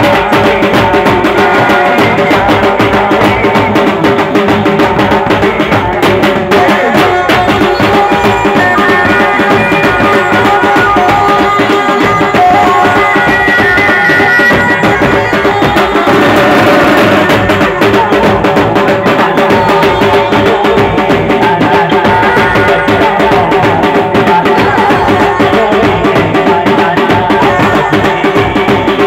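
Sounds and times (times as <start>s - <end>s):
fast bass drumming: 0.0s - 29.0s.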